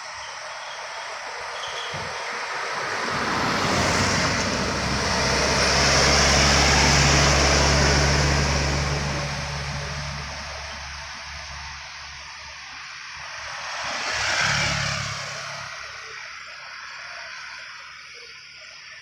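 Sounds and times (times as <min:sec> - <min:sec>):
tyre and road noise: 0:00.0 - 0:16.9
loaded truck driving past: 0:00.5 - 0:16.8.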